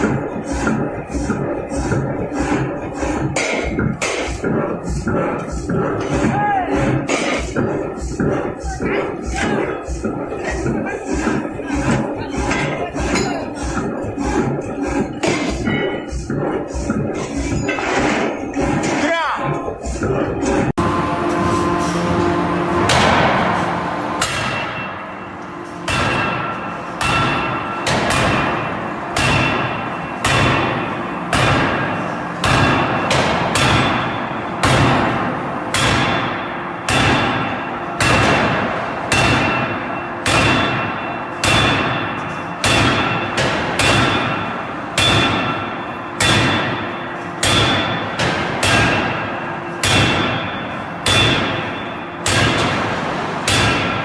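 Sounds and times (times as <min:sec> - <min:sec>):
hammer striking metal: 0:00.0 - 0:19.1, 0:21.6 - 0:54.0.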